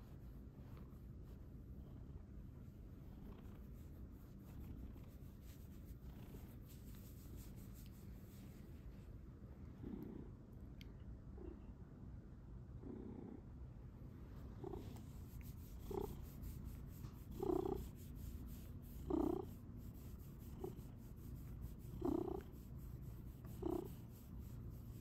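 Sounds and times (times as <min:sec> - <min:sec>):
cat purring: 0:00.0 - 0:07.9, 0:09.5 - 0:11.8, 0:12.6 - 0:13.6, 0:14.4 - 0:25.0.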